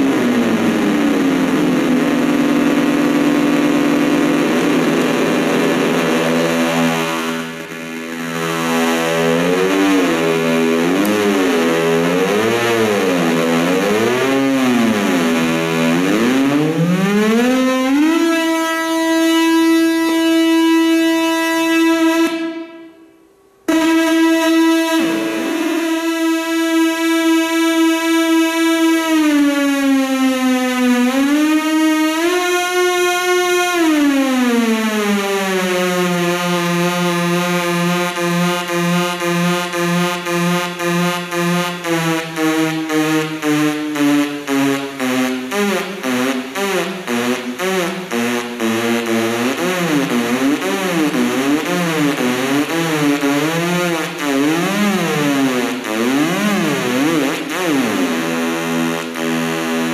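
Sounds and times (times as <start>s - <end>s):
buzzy synthesizer tone: 0.0s - 59.9s.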